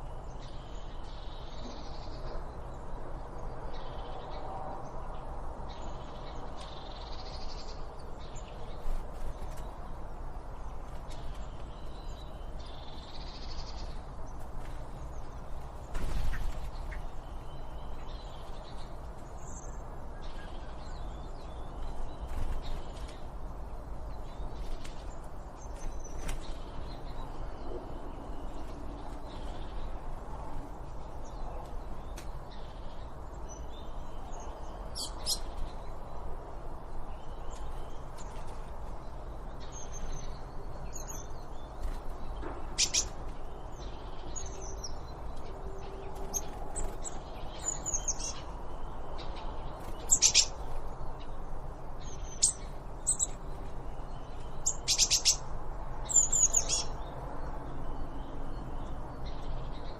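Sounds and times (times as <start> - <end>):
low background noise: 0.0 - 59.9
wild birds chirping and calling: 5.8 - 59.9.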